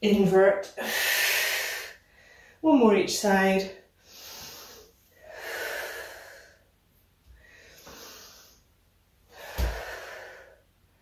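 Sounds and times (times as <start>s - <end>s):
woman breathing: 0.8s - 2.6s, 3.9s - 11.0s.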